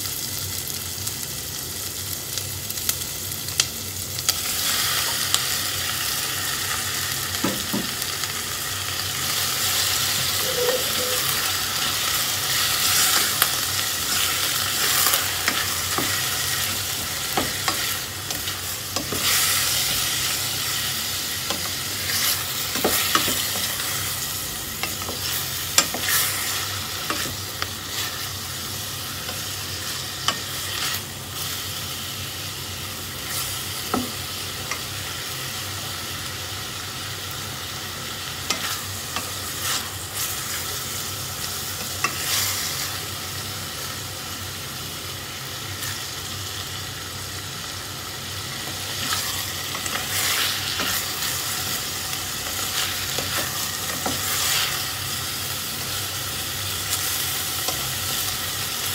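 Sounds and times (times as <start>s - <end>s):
meat and onion sizzling: 0.0s - 58.9s.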